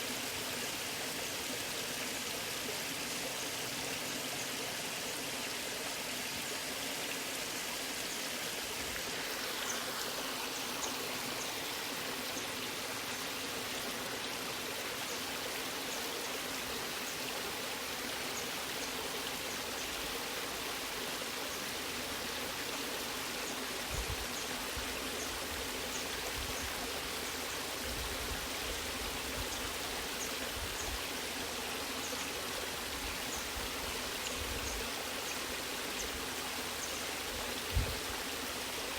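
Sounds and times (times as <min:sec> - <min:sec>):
waterfall and stream rushing: 0:00.0 - 0:38.9.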